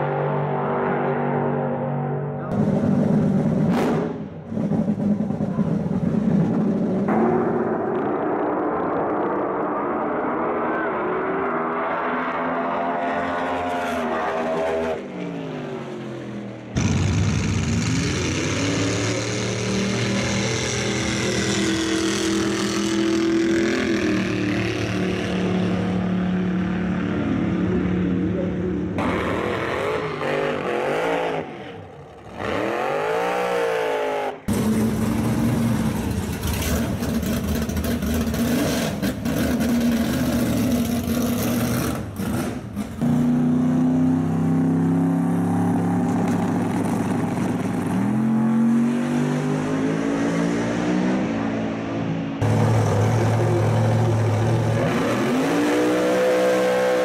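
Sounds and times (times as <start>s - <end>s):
drag racing car engines revving: 0.0s - 57.0s.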